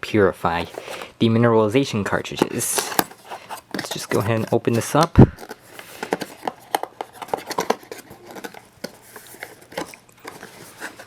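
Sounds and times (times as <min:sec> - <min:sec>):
package clicks scrapes and rustles: 0:00.5 - 0:01.1, 0:02.2 - 0:11.0.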